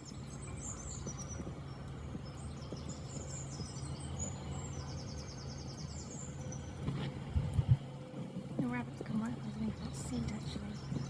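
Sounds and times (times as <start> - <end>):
songbirds singing: 0.0 - 7.9, 8.6 - 11.0
low steady rumble: 0.0 - 11.0.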